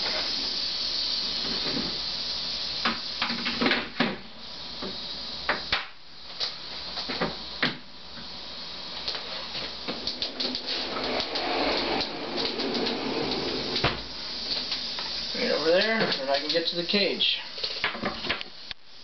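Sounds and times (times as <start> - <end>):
rattlesnake rattling: 0.0 - 7.6, 8.3 - 18.7.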